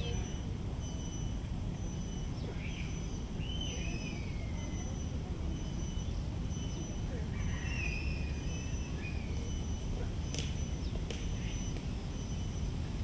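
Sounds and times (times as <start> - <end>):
birds whistling calls: 0.0 - 12.7
faint high insect-like tone: 0.0 - 13.0
steady low rumble: 0.0 - 13.0.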